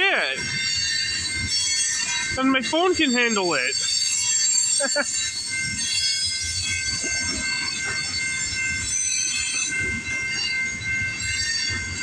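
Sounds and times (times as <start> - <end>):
rumble of wheels on rails: 0.0 - 12.0
train wheel squeal: 0.4 - 2.4, 3.7 - 12.0.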